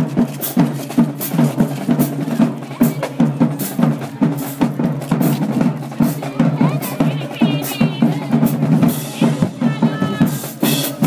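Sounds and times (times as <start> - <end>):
drums pounding steady beat: 0.0 - 11.0
marching band playing: 0.0 - 11.0.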